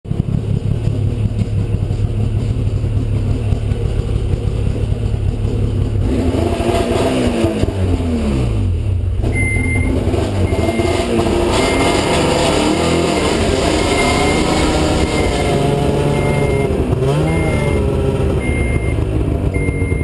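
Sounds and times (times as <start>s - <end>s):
snowmobile engine idling and revving: 0.1s - 20.0s.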